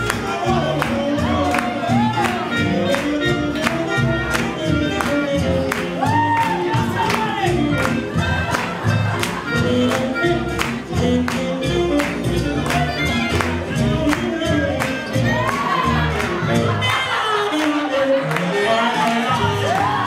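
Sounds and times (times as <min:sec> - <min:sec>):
swing band playing: 0:00.0 - 0:20.0.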